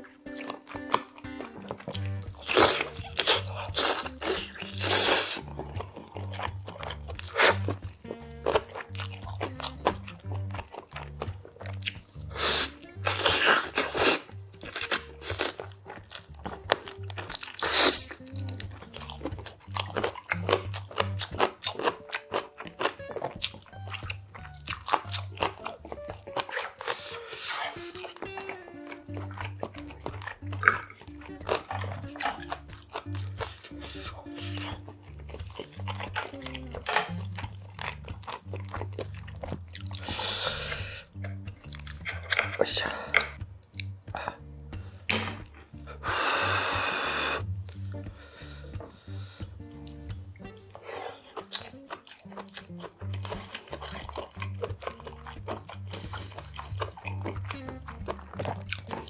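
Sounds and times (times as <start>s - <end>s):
background music with bass line: 0.0s - 59.0s
man chewing and biting: 0.0s - 59.0s.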